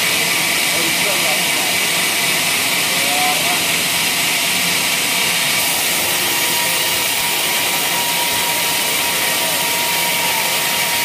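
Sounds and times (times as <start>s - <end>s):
band saw blade cutting wood: 0.0s - 11.0s
sawmill drive running: 0.0s - 11.0s
thin steady whine: 0.0s - 11.0s.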